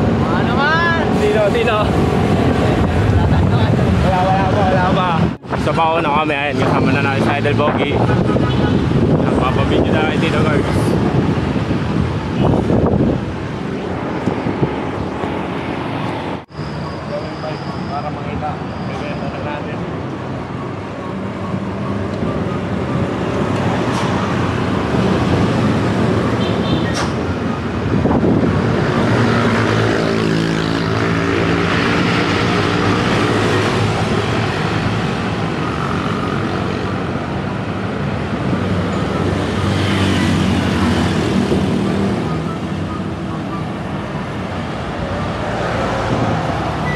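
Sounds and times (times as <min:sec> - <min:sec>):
motor vehicles running: 0:00.0 - 0:46.9.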